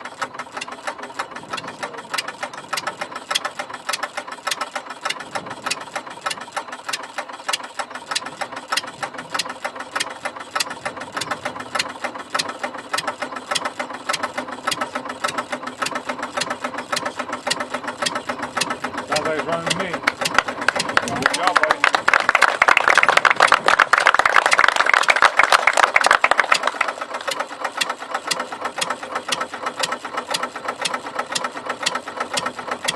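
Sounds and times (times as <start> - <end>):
single-cylinder engine clattering: 0.0 - 32.9.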